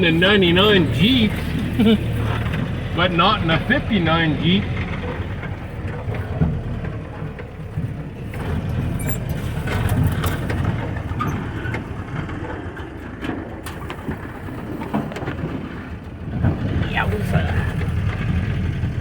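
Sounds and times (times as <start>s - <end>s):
car engine running off-road: 0.0s - 19.0s.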